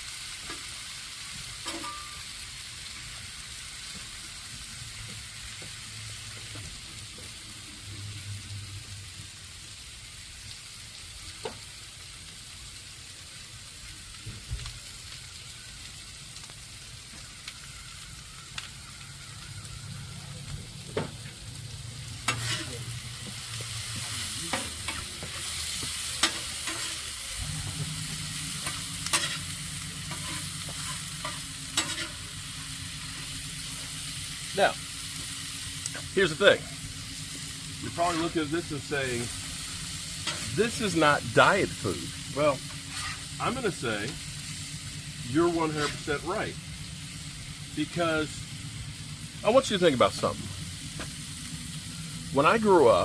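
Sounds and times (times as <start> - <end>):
vegetables sizzling in a pan: 0.0 - 53.0.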